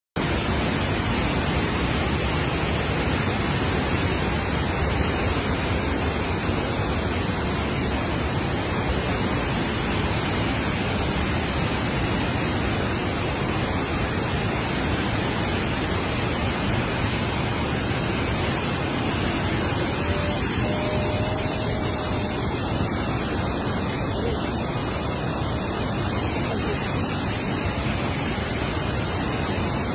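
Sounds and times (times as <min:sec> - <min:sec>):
floodwater rushing over dam: 0:00.2 - 0:29.9.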